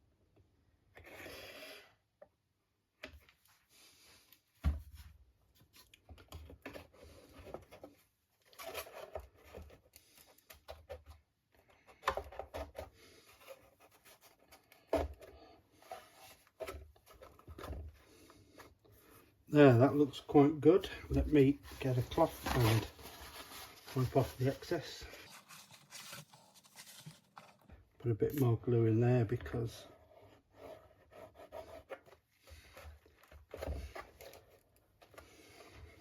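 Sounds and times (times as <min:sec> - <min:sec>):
scratching and rubbing of wood parts: 0:05.6 - 0:28.5, 0:29.2 - 0:36.0.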